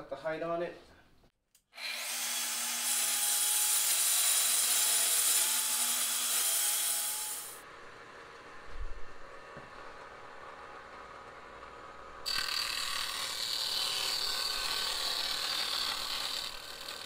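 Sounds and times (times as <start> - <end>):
track saw cutting plywood: 1.8 - 8.5, 9.4 - 17.0.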